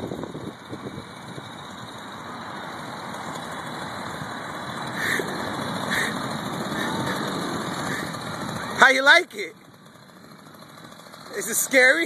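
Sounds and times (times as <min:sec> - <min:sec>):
engine blips: 0:00.0 - 0:12.0
small motorbike engine running: 0:00.0 - 0:12.0.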